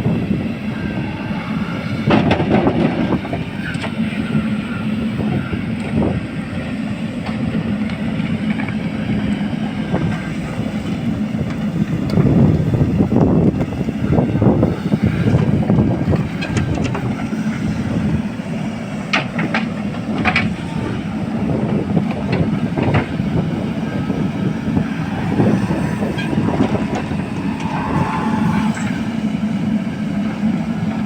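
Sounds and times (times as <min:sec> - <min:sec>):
heavy diesel machinery working: 0:00.0 - 0:31.0.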